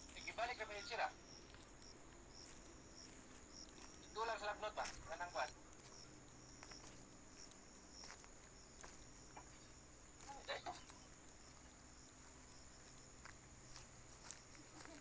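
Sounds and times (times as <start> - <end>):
footsteps on dirt trail: 0.0 - 15.0.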